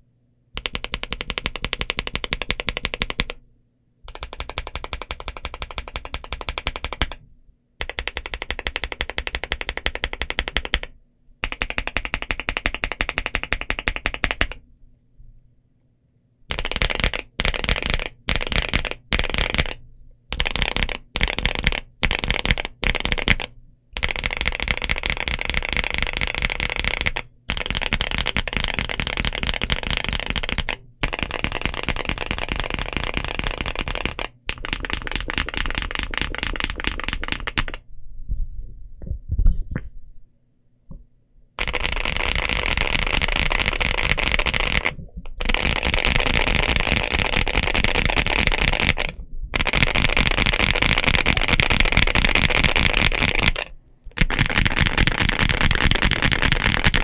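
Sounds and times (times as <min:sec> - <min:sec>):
mechanical keyboard typing: 0:00.6 - 0:03.4, 0:04.1 - 0:07.2, 0:07.8 - 0:14.6, 0:16.5 - 0:37.8, 0:41.6 - 0:57.0.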